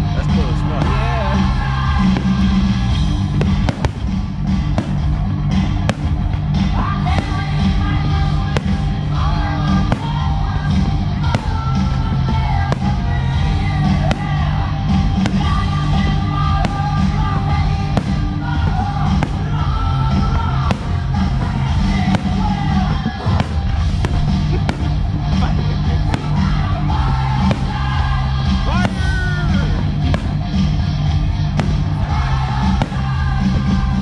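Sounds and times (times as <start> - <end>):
rock song with singing: 0.0 - 34.0
firework shells bursting: 2.0 - 34.0.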